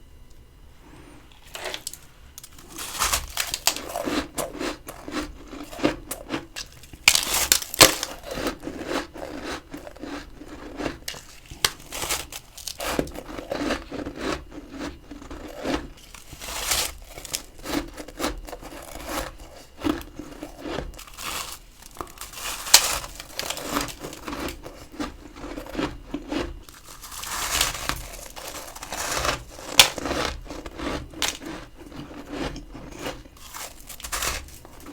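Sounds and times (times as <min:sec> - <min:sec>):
freezer frost crunching: 0:00.0 - 0:34.9.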